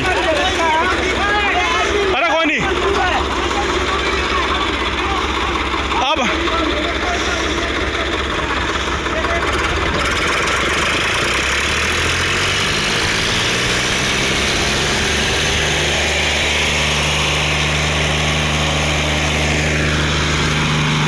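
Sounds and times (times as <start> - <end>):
tractor engines running hard: 0.0 - 21.0.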